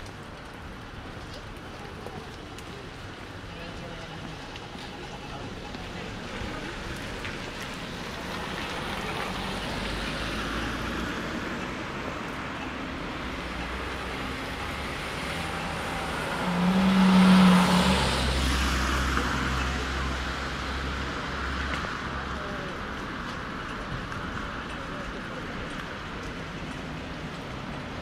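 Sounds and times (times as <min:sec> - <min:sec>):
cars passing: 0:02.6 - 0:28.0.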